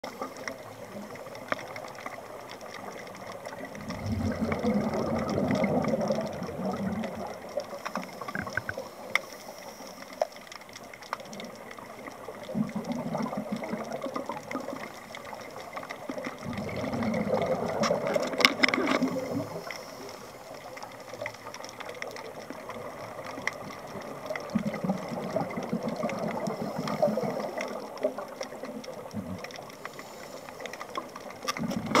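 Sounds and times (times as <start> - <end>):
underwater air bubbling: 0.0 - 32.0.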